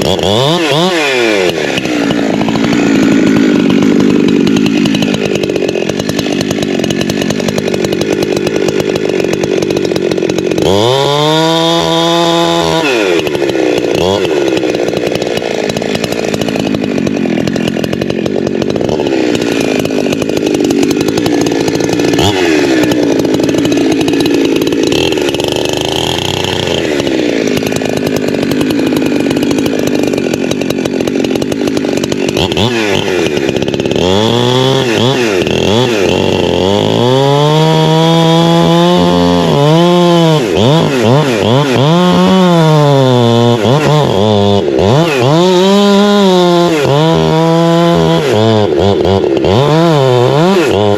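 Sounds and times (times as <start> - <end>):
chainsaw cutting tree trunk: 0.0 - 50.9.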